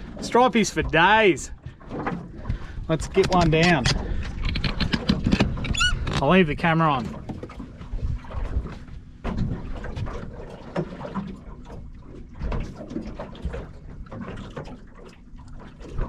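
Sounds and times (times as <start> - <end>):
boat knocks and bumps: 0.0 - 14.9
water slapping against boat hull: 0.0 - 16.0.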